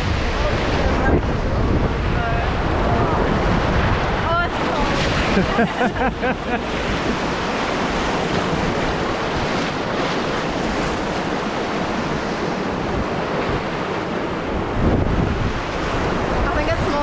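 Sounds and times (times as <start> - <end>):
river water rushing: 0.0 - 17.0
wind on microphone: 0.0 - 17.0.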